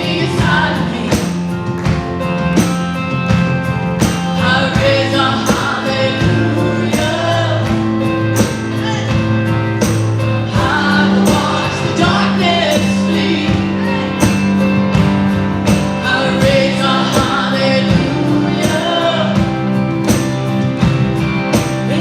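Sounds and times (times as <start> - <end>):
group singing: 0.0 - 2.5, 3.3 - 22.0
live band playing: 0.0 - 22.0
steady drum beat: 0.0 - 22.0.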